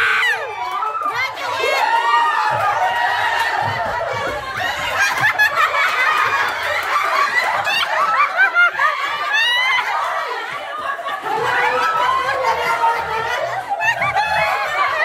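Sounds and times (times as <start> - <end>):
women laughing and squealing: 0.0 - 15.0.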